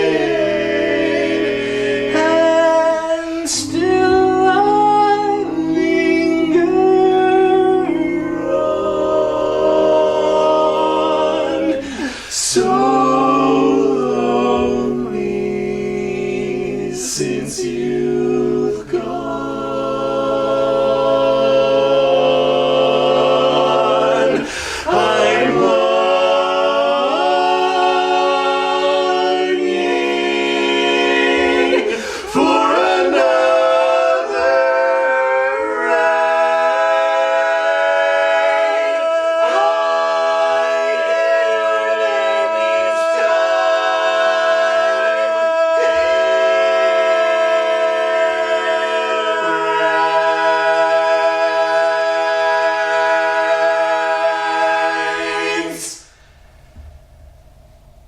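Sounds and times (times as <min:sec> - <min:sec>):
a cappella vocal harmony: 0:00.0 - 0:58.0.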